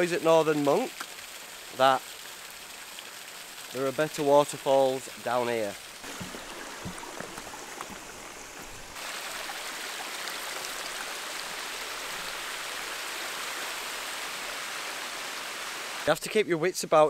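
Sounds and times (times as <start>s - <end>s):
stream splashing over rocks: 0.0s - 16.1s.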